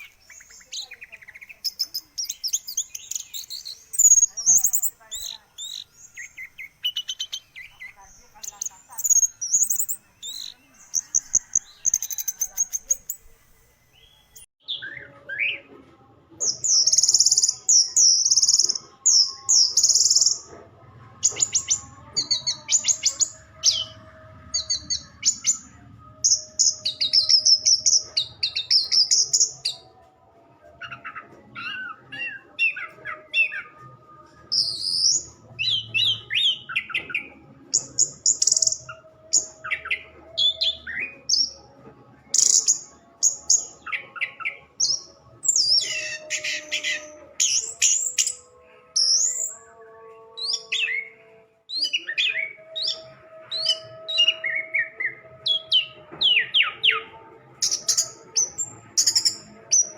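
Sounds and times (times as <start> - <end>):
thrush singing: 0.0 - 15.6, 16.5 - 59.9.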